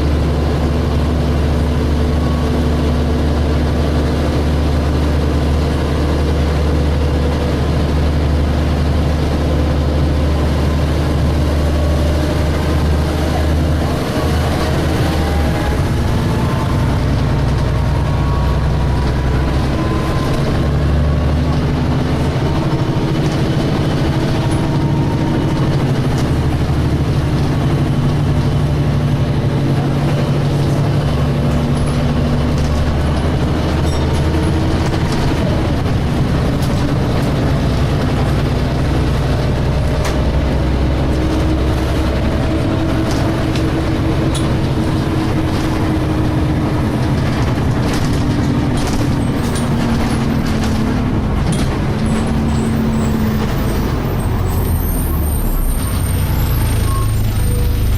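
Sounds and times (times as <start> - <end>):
bus diesel engine pulling: 0.0 - 57.9.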